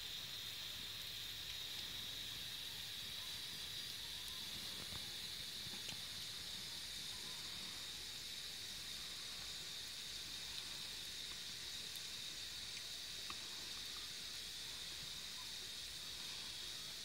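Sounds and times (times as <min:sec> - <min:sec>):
wood fire hissing and crackling: 0:00.0 - 0:17.0.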